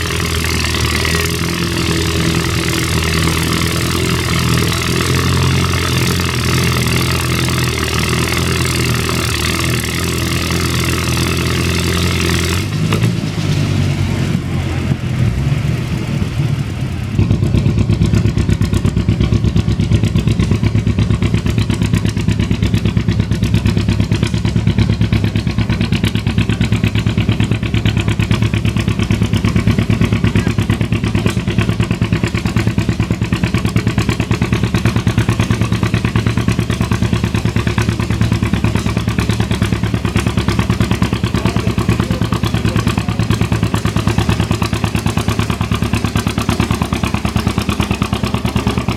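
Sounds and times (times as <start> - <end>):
engine with fast firing beat: 0.0 - 13.2, 14.2 - 48.9
tractor engine running: 0.0 - 48.9.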